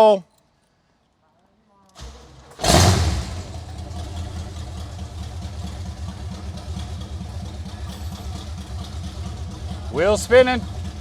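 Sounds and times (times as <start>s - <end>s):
car engine idling: 2.0s - 11.0s.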